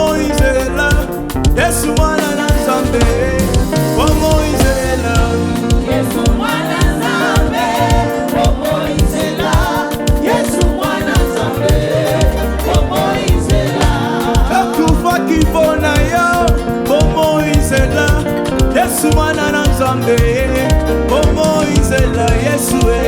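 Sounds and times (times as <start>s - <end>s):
band with steady drum beat: 0.0s - 23.0s
voices singing: 0.0s - 23.0s.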